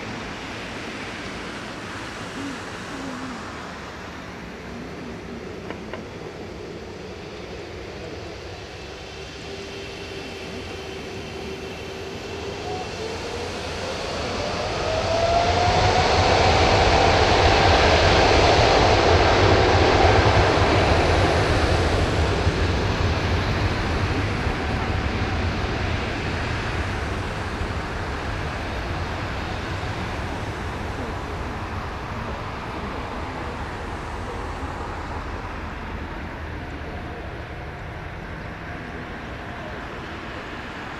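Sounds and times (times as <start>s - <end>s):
loud jet engine roar: 0.0s - 40.9s.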